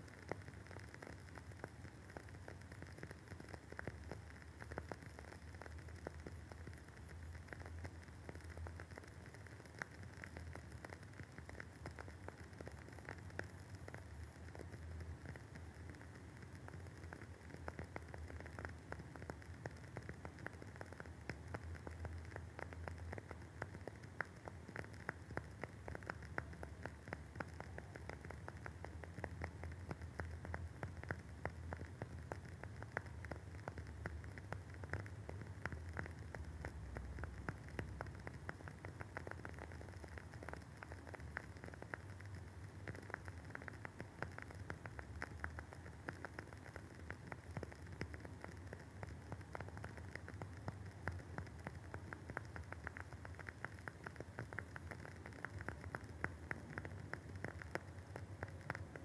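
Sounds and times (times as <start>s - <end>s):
candle wick crackling: 0.0s - 59.0s
faint low hum: 0.0s - 59.0s.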